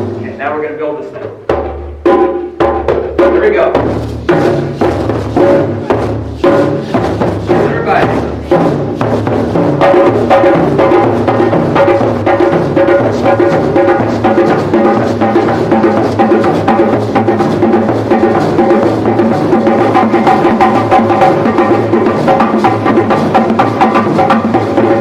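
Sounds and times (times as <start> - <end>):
group drumming on hand drums: 0.0 - 25.0.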